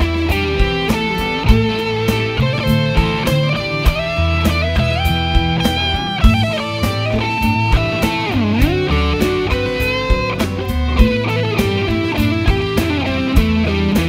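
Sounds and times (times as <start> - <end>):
bass line: 0.0 - 14.0
electric guitar melodic lead: 0.0 - 14.0
regular beat: 0.0 - 14.0.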